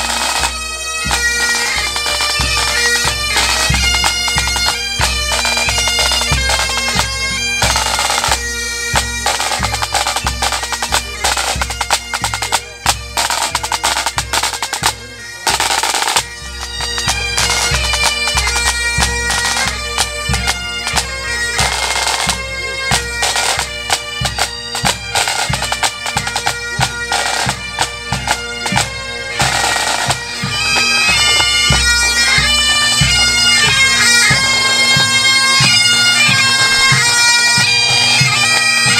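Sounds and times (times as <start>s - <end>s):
bagpipes playing: 0.0s - 38.9s
snare and bass drums beating: 0.0s - 38.9s.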